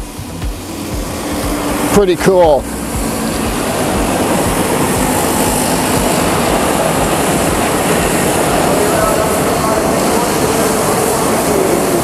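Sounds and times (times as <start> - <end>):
snowmobile engines droning: 0.0 - 12.0.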